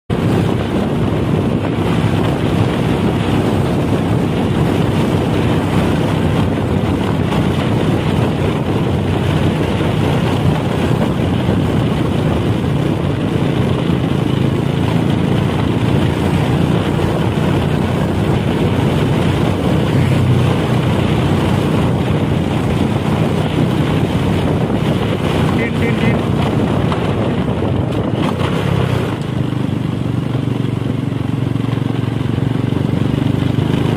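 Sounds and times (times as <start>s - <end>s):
vehicle engine and road noise: 0.1s - 33.9s
wind rushing over microphone: 0.1s - 33.9s.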